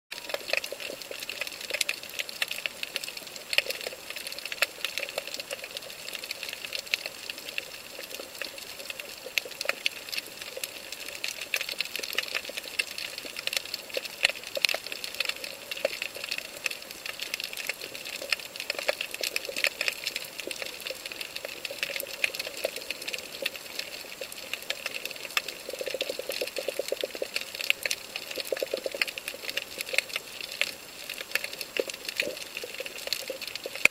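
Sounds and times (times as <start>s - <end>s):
underwater reef crackle clicks: 0.2s - 33.9s.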